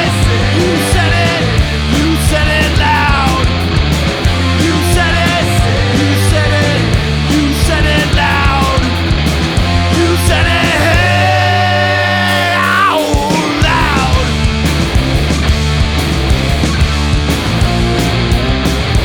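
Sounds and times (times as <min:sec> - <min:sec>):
punk rock band playing: 0:00.0 - 0:19.0.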